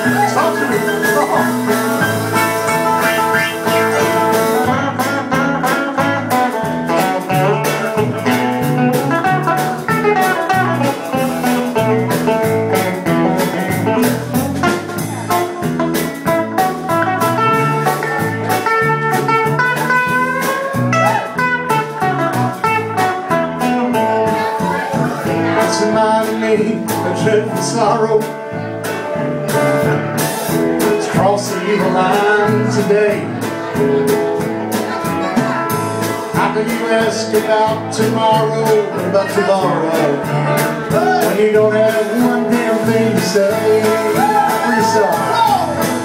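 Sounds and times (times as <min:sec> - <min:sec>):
acoustic band playing: 0:00.0 - 0:46.0
guitar: 0:00.0 - 0:46.0
walking bass: 0:00.0 - 0:46.0.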